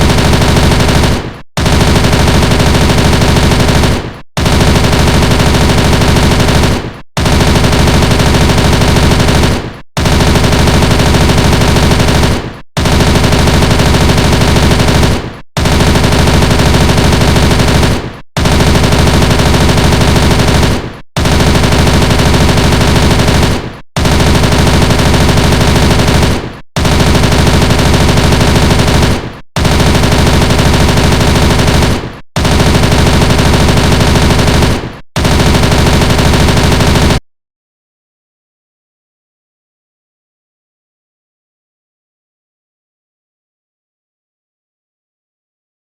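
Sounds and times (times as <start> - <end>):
submachine gun automatic fire: 0.0 - 37.2.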